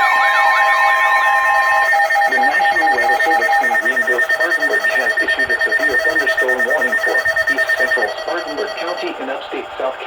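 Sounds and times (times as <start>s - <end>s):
loud two-tone alarm: 0.0s - 9.4s.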